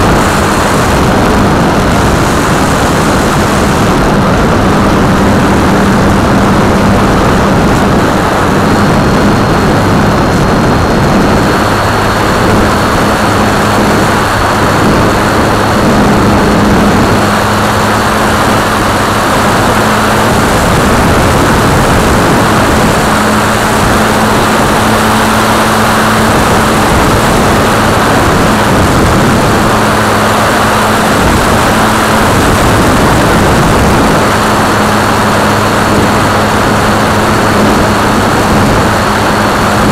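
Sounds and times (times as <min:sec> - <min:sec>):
electric motor and propeller hum: 0:00.0 - 0:39.9
wind rush: 0:00.0 - 0:39.9.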